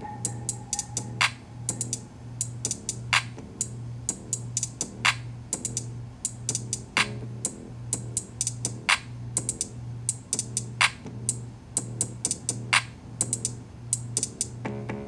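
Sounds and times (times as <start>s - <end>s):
instrumental beat music: 0.0s - 15.0s.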